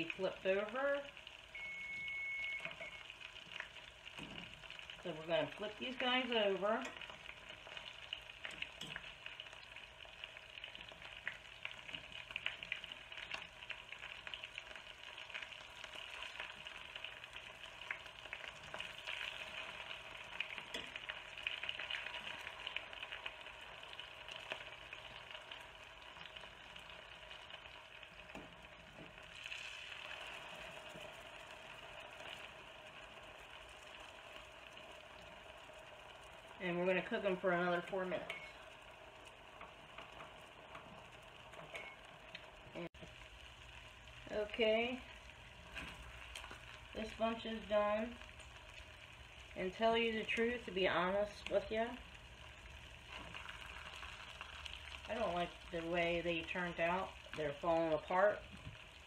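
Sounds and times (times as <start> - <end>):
chicken sizzling in oil: 0.0 - 59.0.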